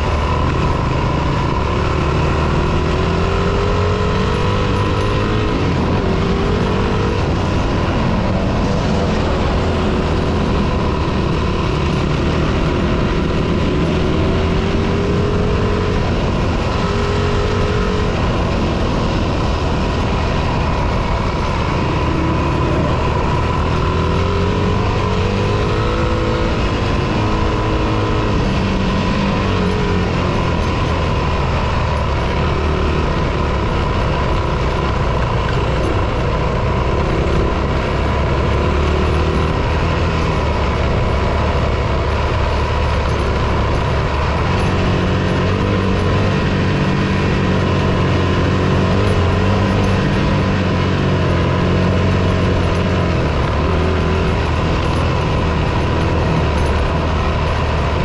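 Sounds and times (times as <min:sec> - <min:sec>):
dirt bike engine revving: 0:00.0 - 0:58.0
rushing noise: 0:00.0 - 0:58.0.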